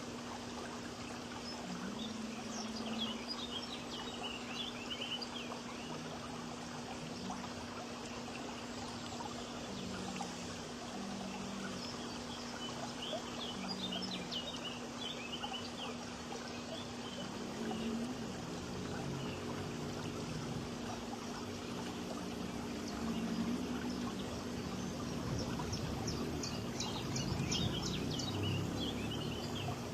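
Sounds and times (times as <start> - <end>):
small birds twittering: 0.2 - 29.9.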